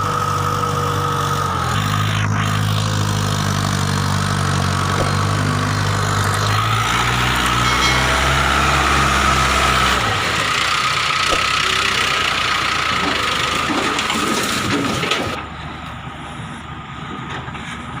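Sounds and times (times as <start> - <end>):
tractor diesel engine throbbing: 0.0 - 18.0.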